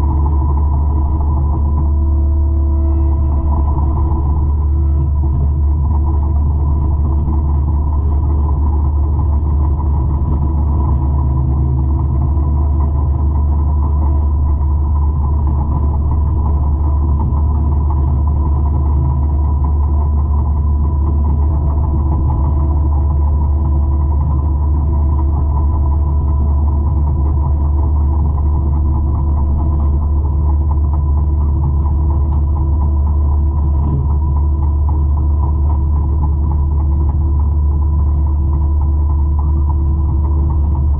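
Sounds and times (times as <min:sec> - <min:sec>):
mulcher engine droning: 0:00.0 - 0:40.9.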